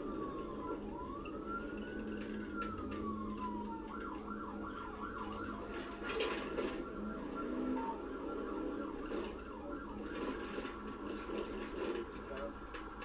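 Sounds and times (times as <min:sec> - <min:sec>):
police siren wailing and yelping: 0:00.0 - 0:13.0
vehicle road noise: 0:01.9 - 0:13.0.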